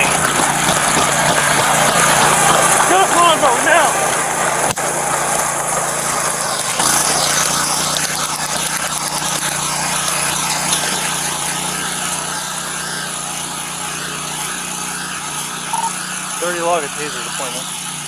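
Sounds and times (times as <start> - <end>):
rushing noise of moving vehicle: 0.0 - 17.6
vehicle engine hum: 0.0 - 18.0.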